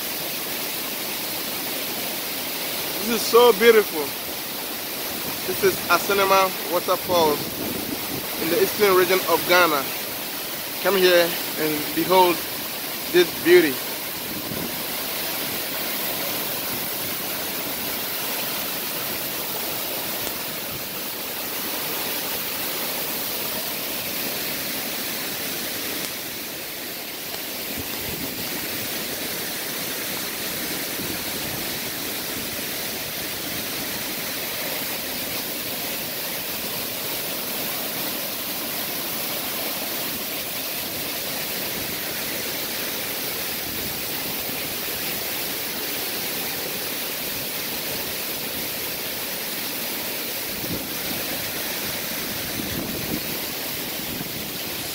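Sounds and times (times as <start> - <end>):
water splashing over rocks: 0.0 - 54.9
waterfall pouring into pool: 0.0 - 54.9.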